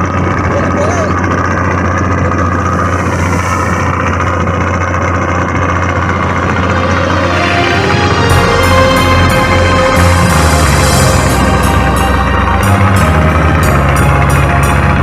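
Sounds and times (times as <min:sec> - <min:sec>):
boat engine humming: 0:00.0 - 0:15.0
dense rushing noise: 0:00.0 - 0:15.0.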